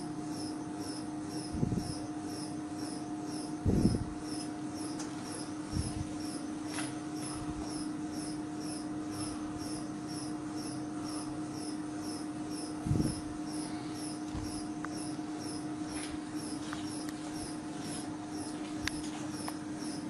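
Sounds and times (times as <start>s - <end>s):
testing machine hum: 0.0s - 20.0s.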